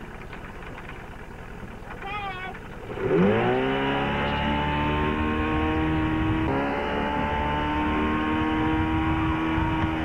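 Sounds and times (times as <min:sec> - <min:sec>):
boat engine at high throttle: 0:00.0 - 0:10.0.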